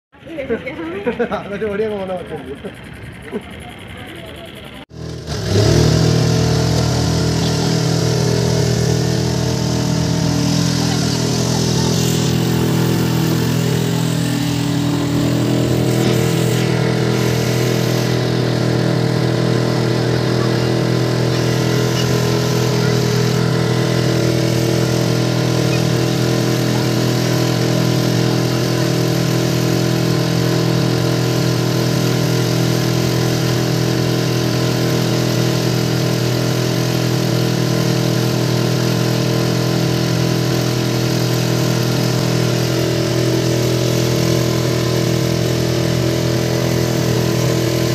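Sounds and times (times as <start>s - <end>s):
motorboat engine running: 0.2s - 47.9s.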